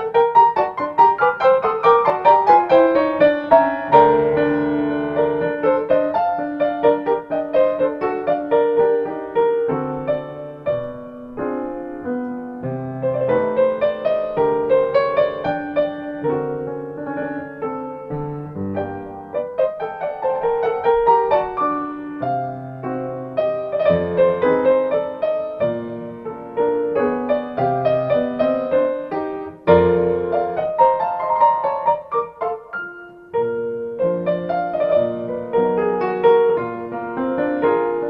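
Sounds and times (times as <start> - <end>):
solo piano piece: 0.0 - 38.0.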